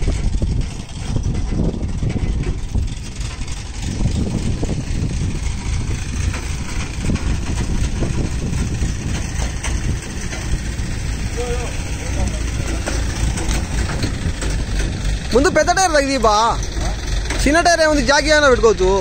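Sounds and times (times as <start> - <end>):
crane engine rumbling: 0.0 - 19.0.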